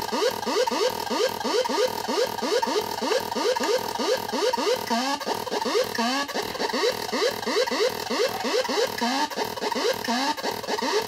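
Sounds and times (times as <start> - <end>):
harsh electronic chirping tone: 0.1 - 11.0.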